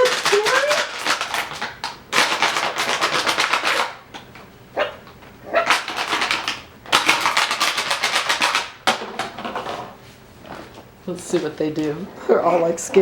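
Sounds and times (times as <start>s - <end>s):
plastic bottle crinkling: 0.0s - 4.4s, 5.1s - 12.0s.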